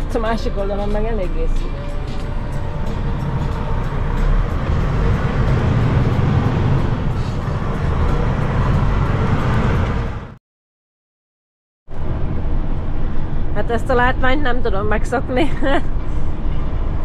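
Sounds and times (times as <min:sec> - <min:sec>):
lorry engine and road noise: 0:00.0 - 0:10.4, 0:11.9 - 0:17.0.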